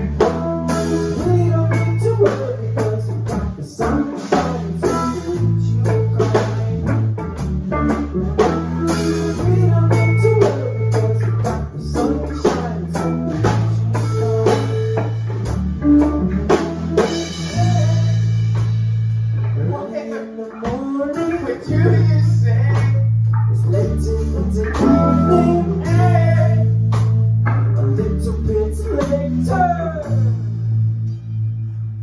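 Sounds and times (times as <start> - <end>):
bass guitar long notes: 0.0 - 19.9, 20.6 - 32.0
steady drumming: 0.0 - 31.2
electric guitars: 0.0 - 32.0.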